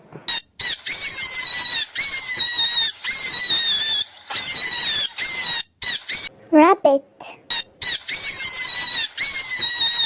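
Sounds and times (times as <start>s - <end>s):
rabbit squealing: 0.3s - 6.3s, 7.5s - 10.0s.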